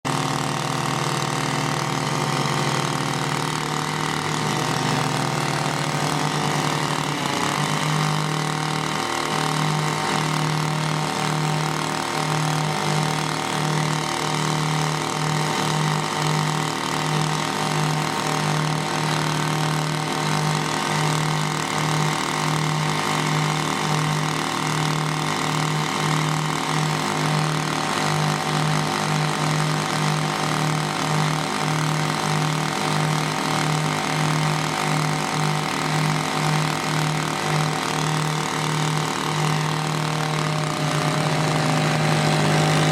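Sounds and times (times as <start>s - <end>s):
drilling rig engine running: 0.1s - 42.9s.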